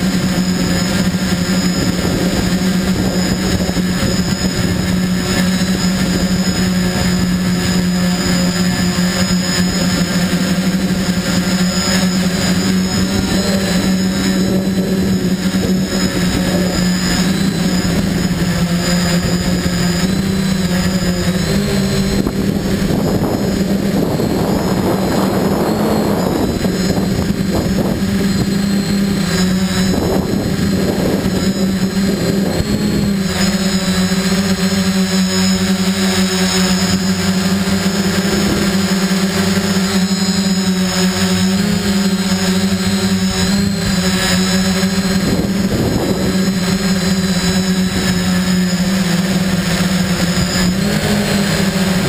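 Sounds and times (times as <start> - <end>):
drone propellers buzzing: 0.0 - 52.0
wind on microphone: 0.0 - 52.0.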